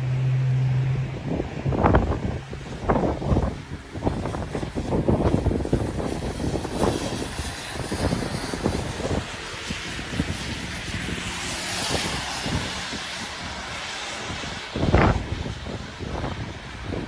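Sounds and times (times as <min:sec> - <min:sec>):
jet engines on approach: 0:00.0 - 0:17.0
wind on microphone: 0:00.0 - 0:17.0.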